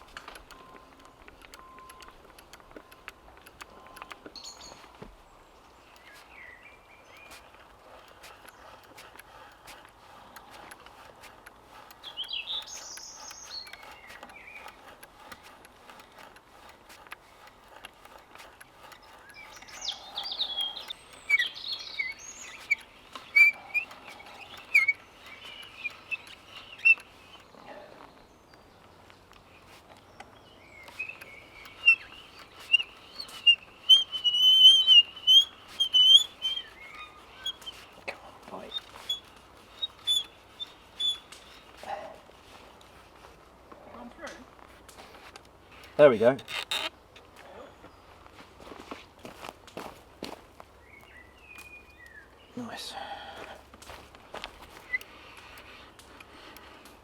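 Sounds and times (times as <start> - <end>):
faint clicks: 0.0 - 52.4, 53.4 - 57.0
wild birds singing: 0.0 - 57.0.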